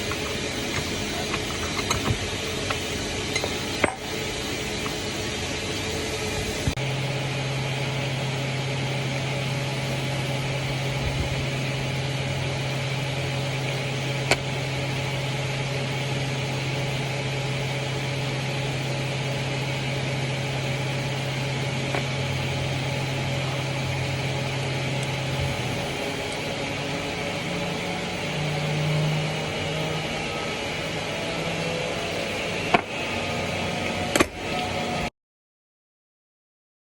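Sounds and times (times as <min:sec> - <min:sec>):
cnc machine humming: 0:00.0 - 0:35.1
shifting machine tones: 0:00.0 - 0:35.1.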